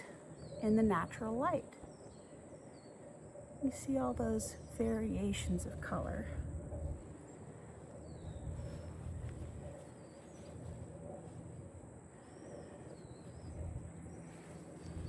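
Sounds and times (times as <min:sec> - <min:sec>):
low steady rumble: 0:00.0 - 0:15.0
songbirds chirping faintly: 0:00.0 - 0:15.0.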